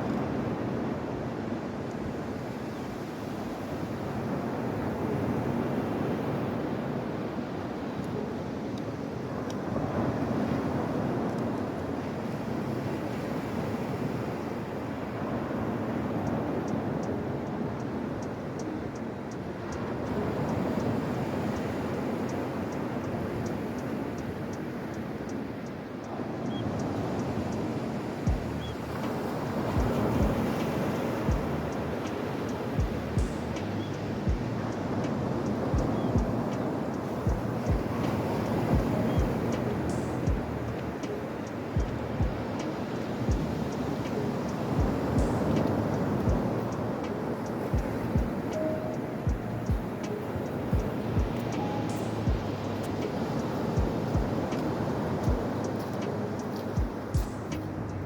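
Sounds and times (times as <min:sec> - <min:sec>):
sea surf on a beach: 0:00.0 - 0:58.0
wind buffeting microphone: 0:00.0 - 0:58.0.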